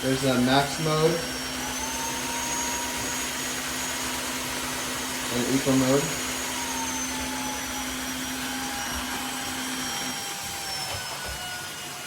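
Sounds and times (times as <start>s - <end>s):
floor cleaner suction and whine: 0.0s - 12.0s.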